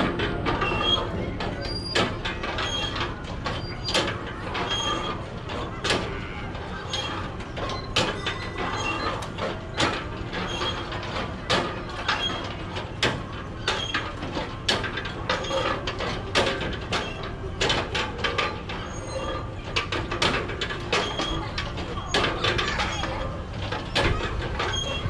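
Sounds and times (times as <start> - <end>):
ride mechanism clicking and clanking: 0.0 - 25.0.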